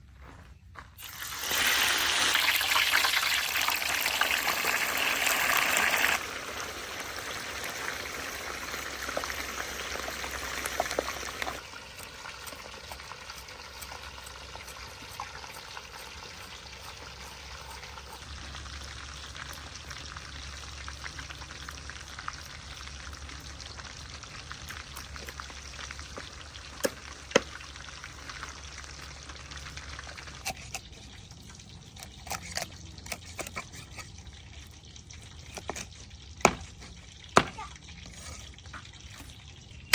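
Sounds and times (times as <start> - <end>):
kitchen water running: 1.0 - 39.9.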